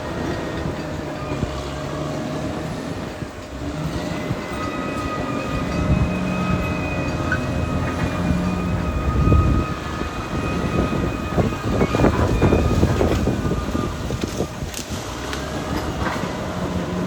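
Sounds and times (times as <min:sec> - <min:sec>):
bulldozer diesel engine: 0:00.0 - 0:17.0
steel tracks clanking: 0:00.0 - 0:17.0
high whine: 0:02.4 - 0:17.0.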